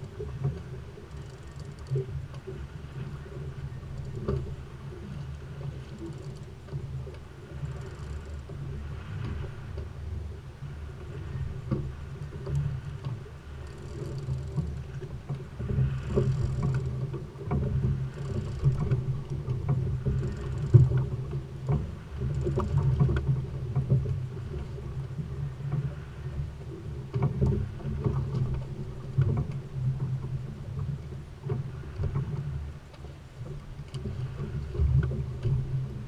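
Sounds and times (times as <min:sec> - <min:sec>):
water splashing against hull: 0:00.0 - 0:36.0.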